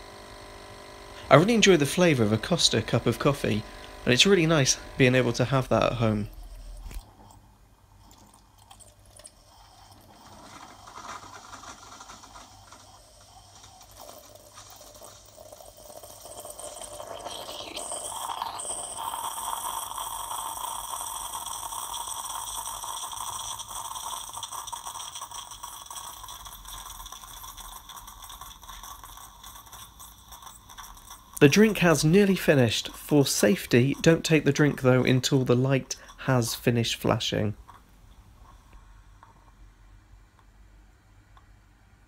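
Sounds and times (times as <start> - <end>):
coffee streaming into a mug: 0.0 - 39.7
coffee machine brewing: 0.0 - 40.6.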